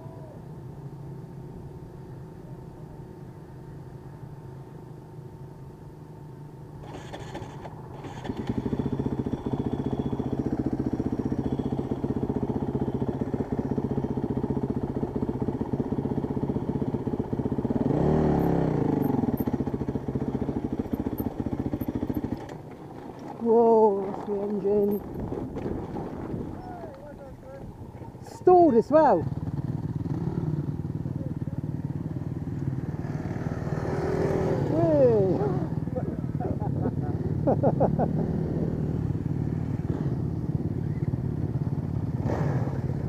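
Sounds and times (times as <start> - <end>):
dirt bike engine: 0.0 - 43.0.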